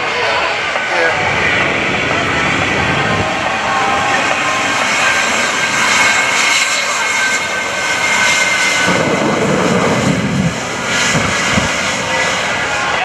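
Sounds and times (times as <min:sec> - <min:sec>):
jet engines roaring with whine: 0:00.0 - 0:13.0.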